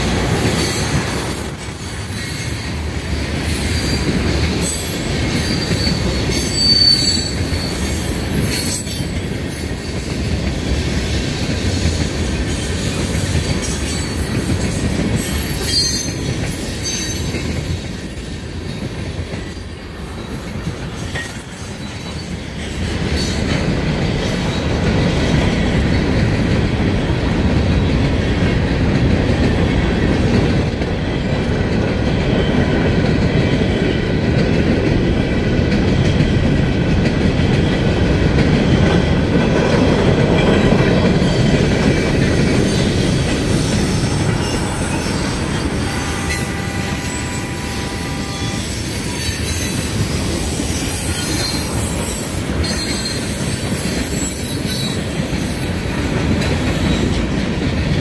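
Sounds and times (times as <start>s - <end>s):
freight train wheels clattering: 0.0s - 58.0s.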